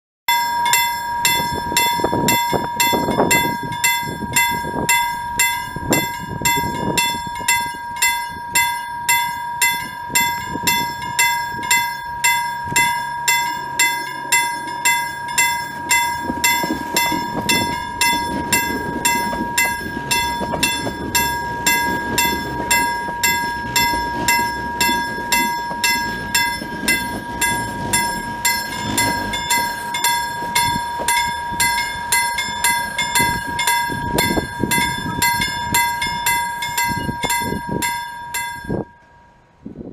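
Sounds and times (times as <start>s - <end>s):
level crossing bell ringing: 0.3s - 39.2s
tram rumbling past: 0.3s - 39.9s.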